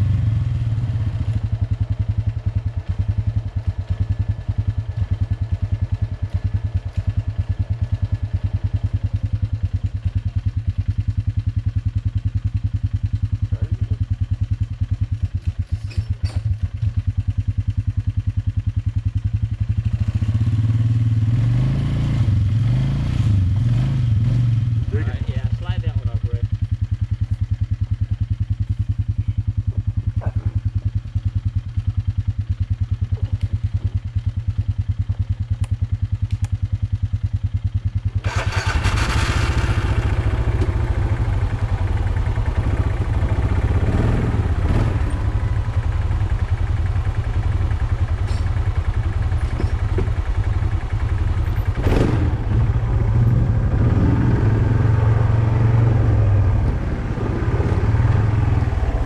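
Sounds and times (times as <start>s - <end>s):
atv engine idling and revving: 0.0s - 59.0s.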